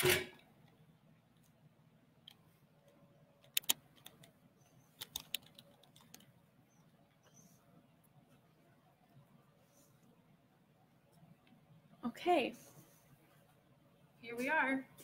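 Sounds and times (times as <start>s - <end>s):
faint low hum: 0.2s - 15.0s.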